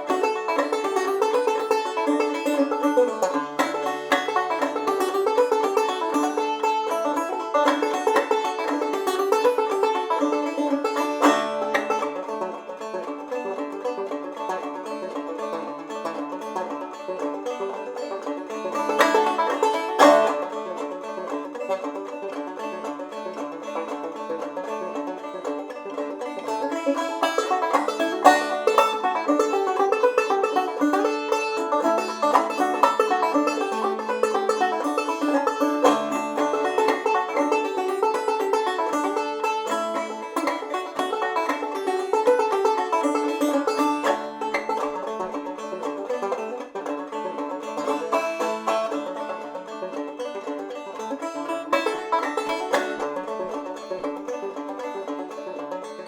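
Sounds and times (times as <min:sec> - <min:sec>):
banjo playing old-time tune: 0:00.0 - 0:56.0.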